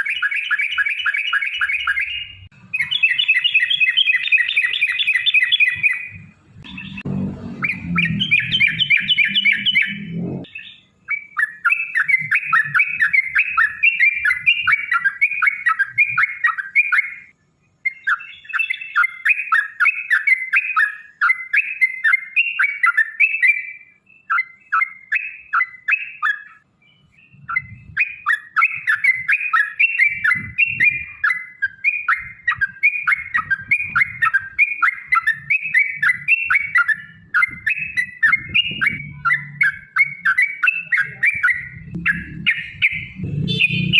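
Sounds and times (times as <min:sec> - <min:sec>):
bird chattering song: 0:00.0 - 0:43.9.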